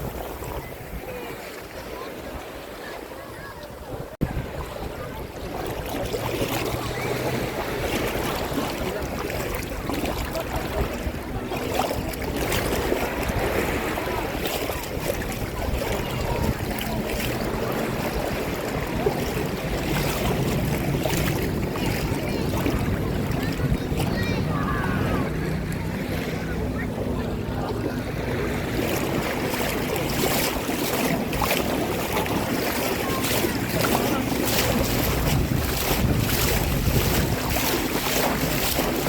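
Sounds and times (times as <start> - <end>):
small waves lapping: 0.0 - 39.0.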